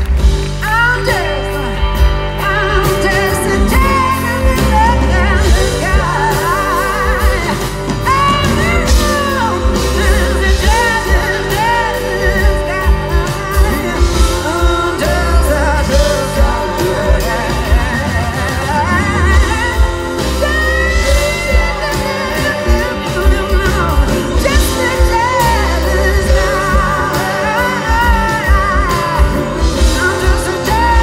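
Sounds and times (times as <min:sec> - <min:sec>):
live pop band playing: 0:00.0 - 0:31.0
person singing: 0:00.0 - 0:31.0.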